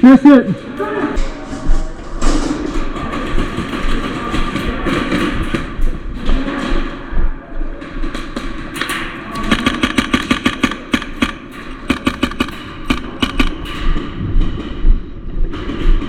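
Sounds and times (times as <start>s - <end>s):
airsoft guns firing in bursts: 2.3s - 16.0s.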